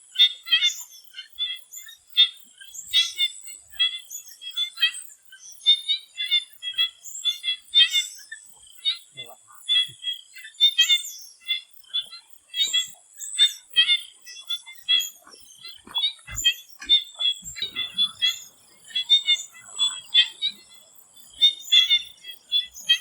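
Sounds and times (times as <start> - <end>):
frogs calling: 0.1 - 23.0.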